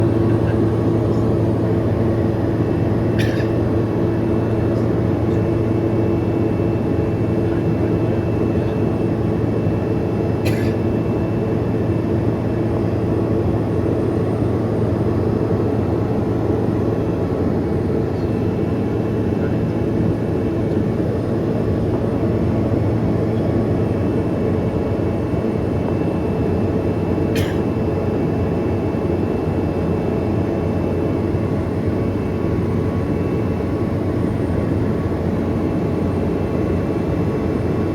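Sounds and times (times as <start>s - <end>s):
aircraft engine drone: 0.0s - 37.9s.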